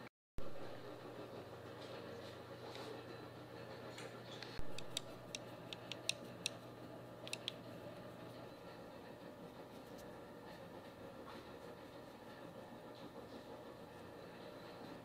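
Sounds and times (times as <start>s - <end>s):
low steady hum: 1.9s - 15.0s.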